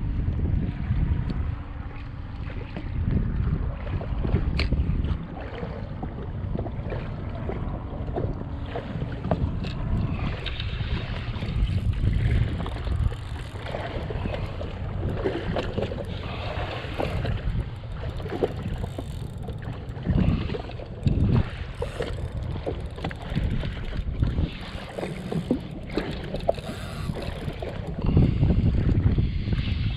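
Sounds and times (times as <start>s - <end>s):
water splashing around jet ski: 0.0s - 29.9s
wind buffeting microphone: 0.0s - 29.9s.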